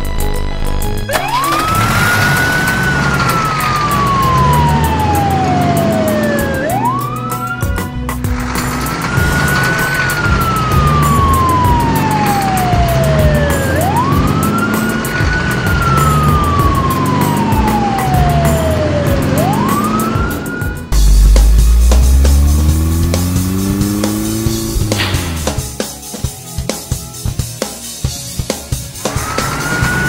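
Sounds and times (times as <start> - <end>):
wailing siren: 0.5 - 25.8, 29.2 - 30.0
music beat: 2.8 - 28.0.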